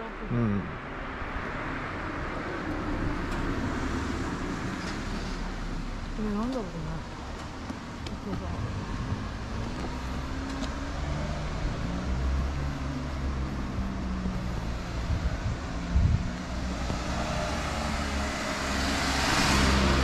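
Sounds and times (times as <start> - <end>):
car engine and tyres humming: 0.0 - 20.0.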